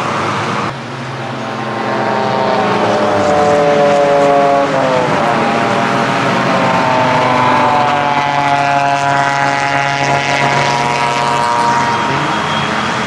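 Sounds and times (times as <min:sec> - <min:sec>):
race cars driving past: 0:00.0 - 0:13.0.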